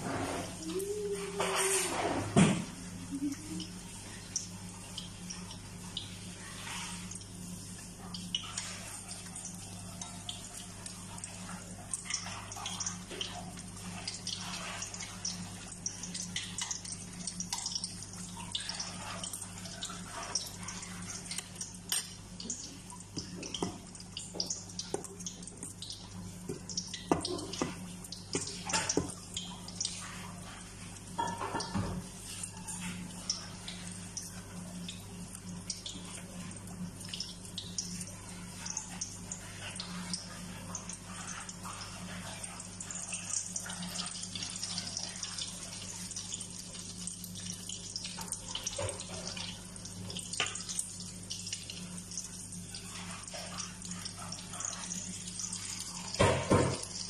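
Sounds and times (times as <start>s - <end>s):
food sizzling in hot oil: 2.8s - 57.0s.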